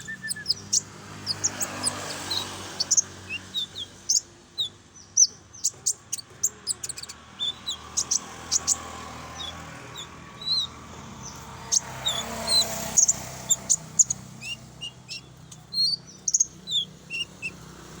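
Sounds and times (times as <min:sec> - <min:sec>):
bird song chirps and whistles: 0:00.0 - 0:17.7.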